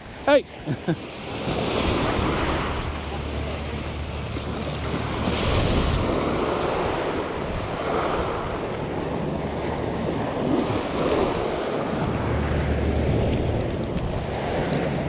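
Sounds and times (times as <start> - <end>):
surf waves washing on sand: 0.0 - 15.0
wind buffeting microphone: 1.1 - 15.0.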